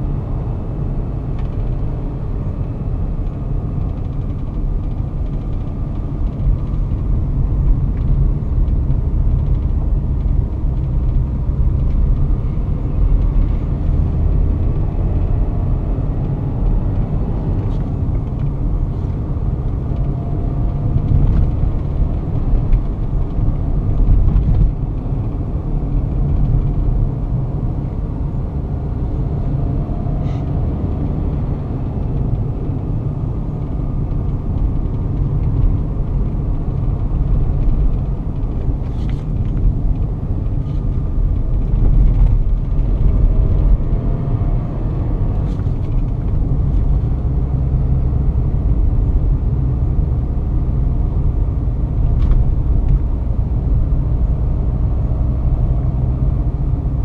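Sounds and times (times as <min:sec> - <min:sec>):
car interior engine and tyre rumble: 0:00.0 - 0:57.0.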